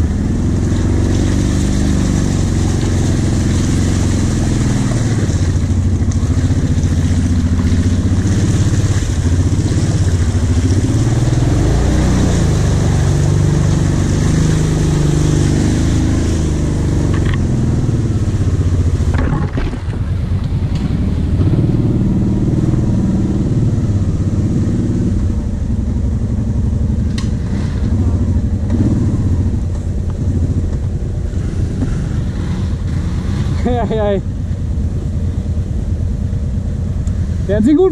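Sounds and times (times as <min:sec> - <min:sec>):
quad bike engine revving: 0:00.0 - 0:34.2.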